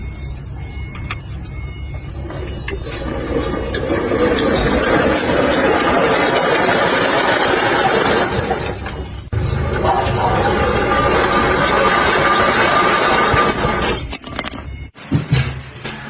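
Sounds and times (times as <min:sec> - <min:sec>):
water pump diesel engine running: 0:00.0 - 0:14.1.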